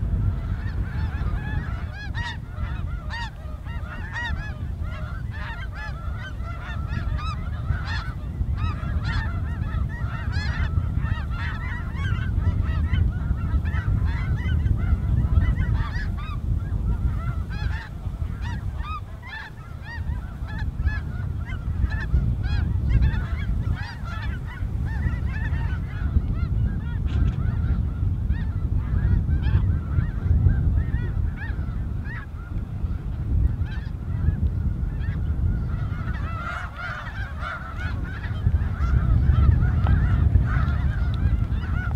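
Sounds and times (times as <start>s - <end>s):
wind rumble on microphone: 0.0s - 41.9s
snow geese honking: 0.1s - 41.9s.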